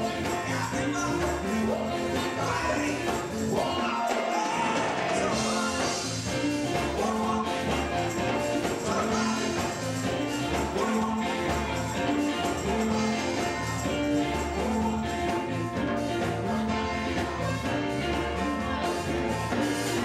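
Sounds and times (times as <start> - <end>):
band playing upbeat groove: 0.0 - 20.0
bass line: 0.0 - 20.0
people singing: 0.0 - 20.0
percussion: 0.0 - 20.0.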